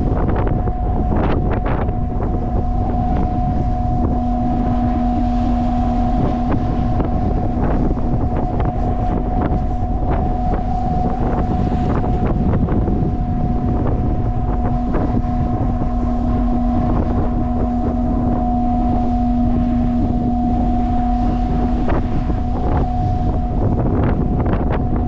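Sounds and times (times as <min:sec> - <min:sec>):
ship machinery drone: 0:00.0 - 0:25.0
wind buffeting microphone: 0:00.0 - 0:25.0.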